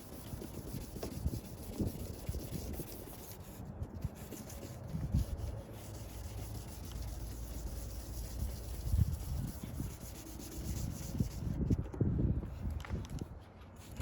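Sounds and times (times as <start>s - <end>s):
sanding pad scraping plastic: 0.0s - 11.6s.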